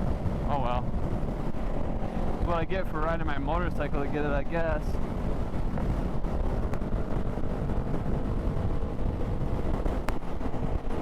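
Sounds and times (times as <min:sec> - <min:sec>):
motorcycle engine running: 0:00.0 - 0:11.0
road rumble: 0:00.0 - 0:11.0
wind noise on microphone: 0:00.0 - 0:11.0.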